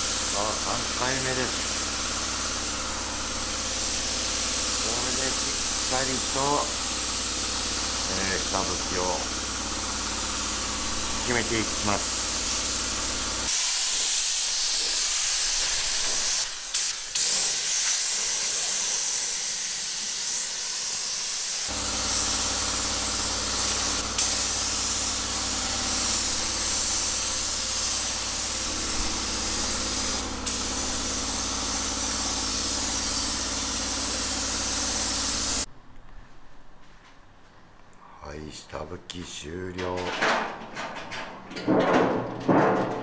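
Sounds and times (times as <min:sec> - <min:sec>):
spray gun hissing: 0:00.0 - 0:35.7.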